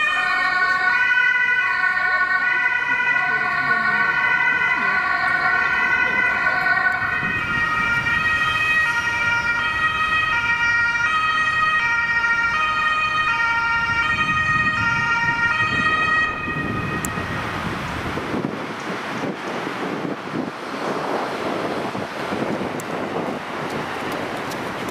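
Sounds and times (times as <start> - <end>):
two-tone ambulance siren: 0.0 - 21.0
road traffic: 0.0 - 24.9.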